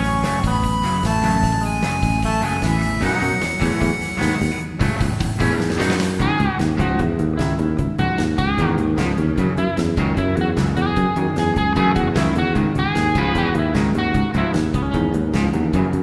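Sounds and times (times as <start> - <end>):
instrumental music with steady beat: 0.0 - 16.0.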